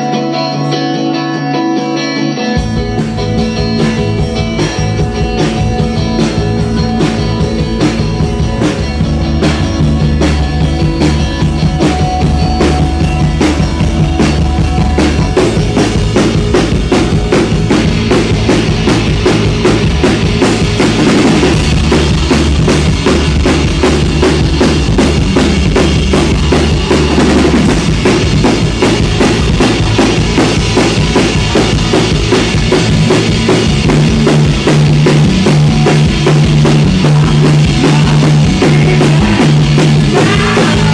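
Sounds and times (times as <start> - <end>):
live rock band playing: 0.0 - 40.9
drum kit beat: 2.6 - 40.9.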